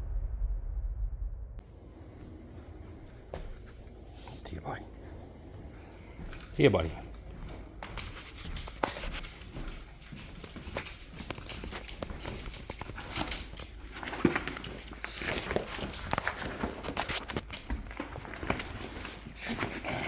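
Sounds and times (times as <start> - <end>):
footsteps on hard floor: 1.6 - 20.0.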